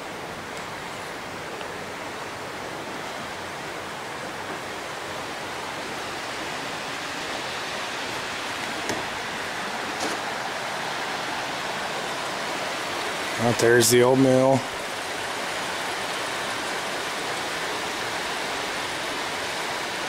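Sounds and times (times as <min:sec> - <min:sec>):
water rushing over dam: 0:00.0 - 0:20.0.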